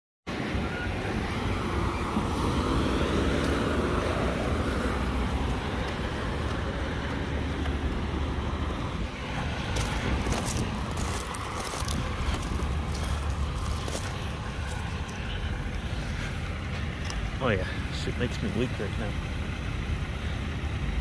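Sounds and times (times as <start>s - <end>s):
diesel truck engine rumbling: 0.3s - 21.0s.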